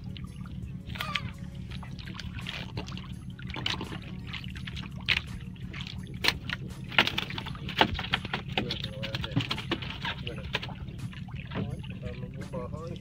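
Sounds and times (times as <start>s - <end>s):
steady low rumble: 0.0s - 13.0s
water slapping against boat: 0.0s - 13.0s.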